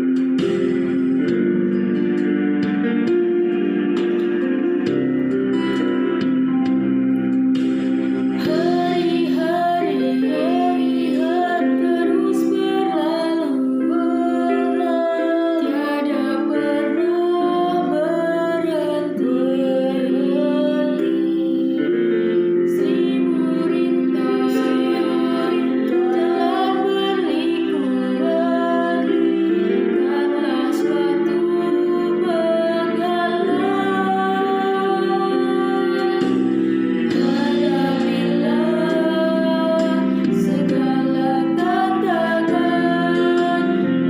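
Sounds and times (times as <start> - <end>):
instrumental accompaniment: 0.0 - 44.0
woman singing: 8.4 - 44.0.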